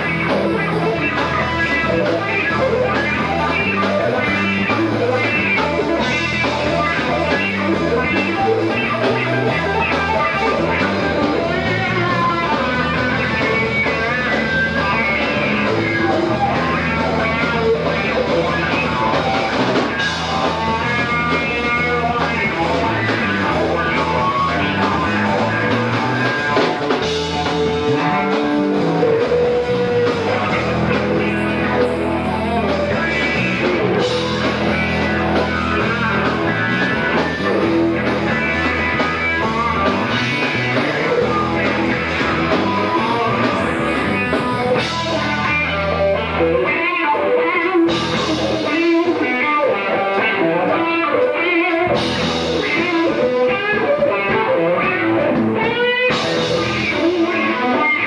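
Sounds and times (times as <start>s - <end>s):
lead guitar line: 0.0s - 58.0s
live rock band playing: 0.0s - 58.0s.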